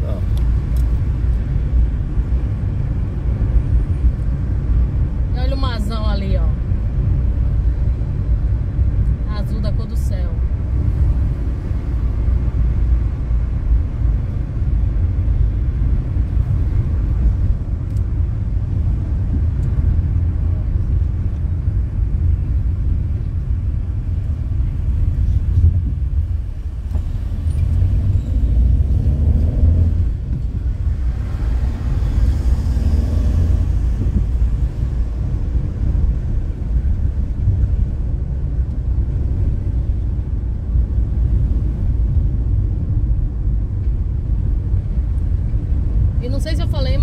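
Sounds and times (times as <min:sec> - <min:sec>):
car engine and tyre rumble: 0:00.0 - 0:47.0
rushing road noise: 0:00.0 - 0:47.0.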